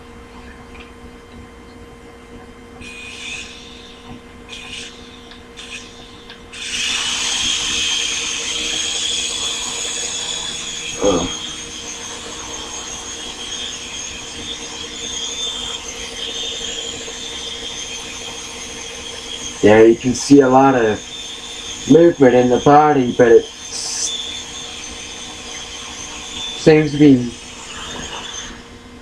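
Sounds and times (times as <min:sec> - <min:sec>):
toy helicopter motor whining: 0:02.8 - 0:29.0
loud wavering sound: 0:04.6 - 0:29.0.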